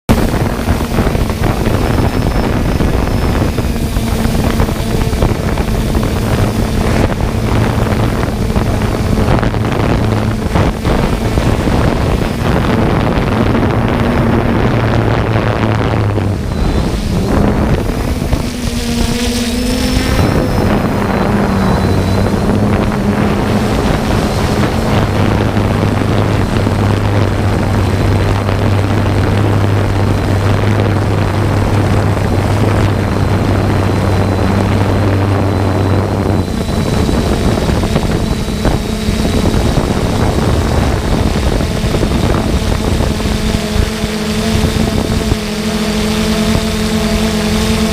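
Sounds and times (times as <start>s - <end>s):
drone propellers humming: 0.0s - 47.9s
wind noise on microphone: 0.0s - 47.9s.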